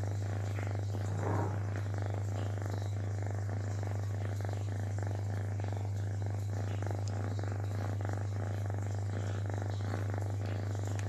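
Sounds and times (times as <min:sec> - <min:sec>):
cat purring: 0:00.0 - 0:11.0
low hum: 0:00.0 - 0:11.0.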